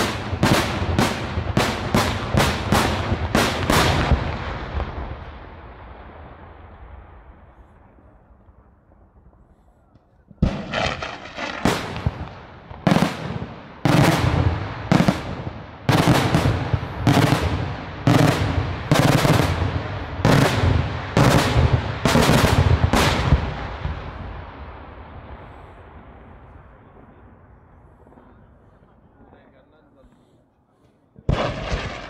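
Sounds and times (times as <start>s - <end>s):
firework shells bursting with echo: 0.0s - 28.8s, 31.1s - 32.0s.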